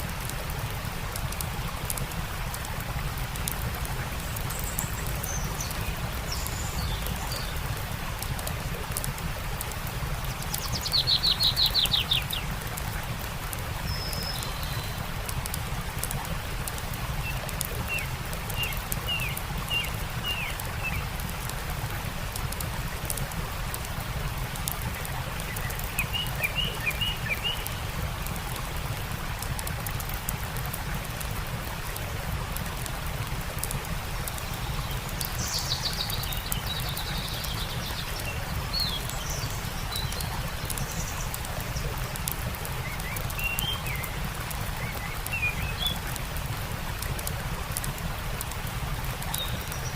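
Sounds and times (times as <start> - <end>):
campfire crackling: 0.0 - 49.9
stream running: 0.0 - 49.9
songbirds chirping: 0.1 - 31.3, 32.0 - 49.9.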